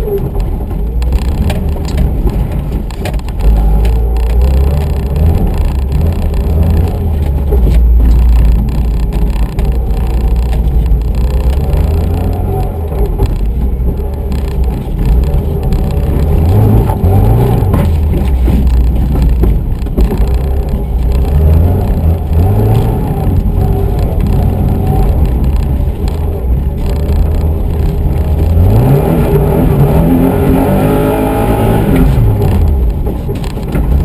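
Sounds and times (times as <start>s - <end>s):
car engine revving under load: 0.0s - 34.0s.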